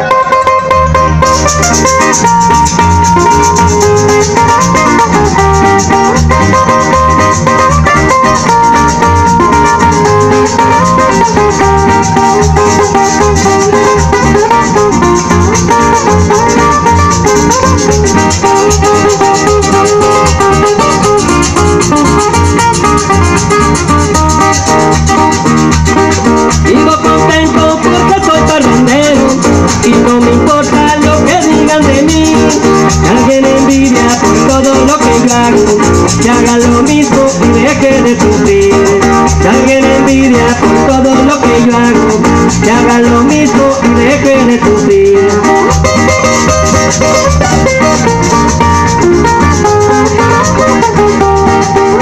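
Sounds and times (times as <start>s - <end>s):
plucked string instruments: 0.0s - 52.0s
steady rattle beat: 1.2s - 52.0s.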